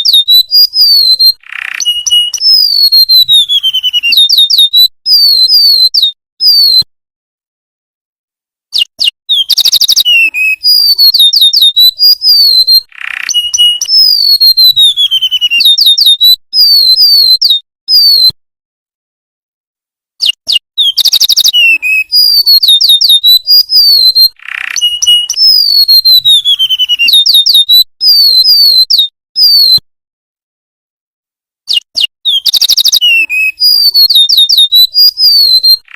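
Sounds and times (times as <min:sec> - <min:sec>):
bird trill: 0:00.0 - 0:06.9, 0:08.7 - 0:18.4, 0:20.2 - 0:29.8, 0:31.7 - 0:35.9
bird whistling song: 0:00.0 - 0:06.9, 0:08.7 - 0:18.4, 0:20.2 - 0:29.8, 0:31.7 - 0:35.9.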